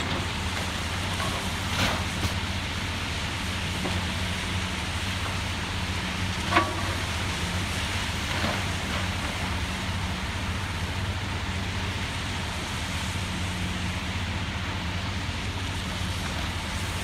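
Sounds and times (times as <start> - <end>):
excavator diesel engine running: 0.0 - 17.0
outdoor noise hiss: 0.0 - 17.0.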